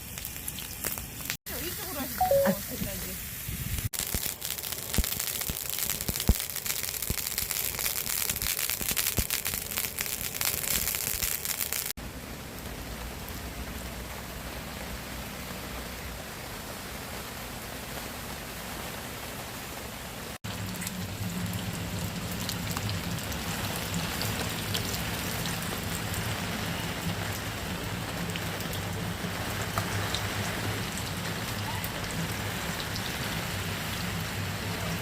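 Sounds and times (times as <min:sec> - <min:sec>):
rain falling on a tent: 0:00.0 - 0:03.1, 0:03.9 - 0:35.0.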